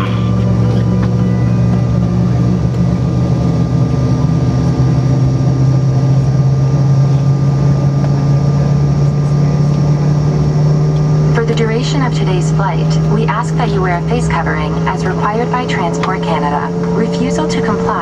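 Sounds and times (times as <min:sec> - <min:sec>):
aircraft cabin engine hum: 0:00.0 - 0:18.0.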